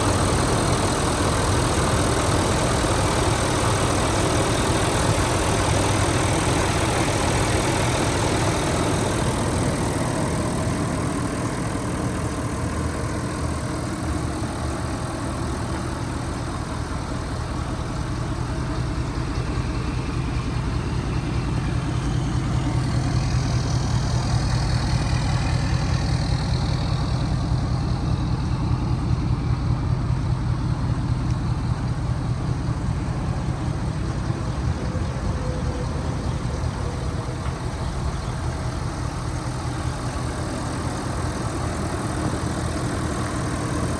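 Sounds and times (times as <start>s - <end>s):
pickup engine idling: 0.0s - 43.9s.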